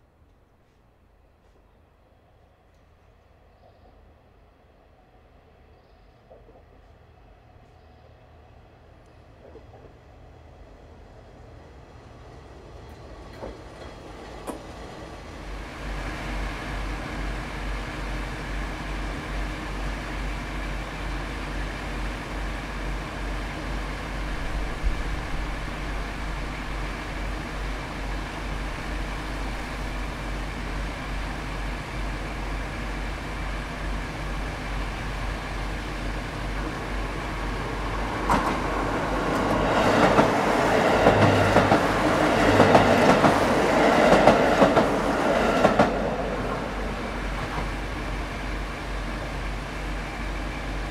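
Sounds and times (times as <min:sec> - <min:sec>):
diesel railcar engine humming: 0:02.7 - 0:50.9
approaching train rushing: 0:03.0 - 0:50.9.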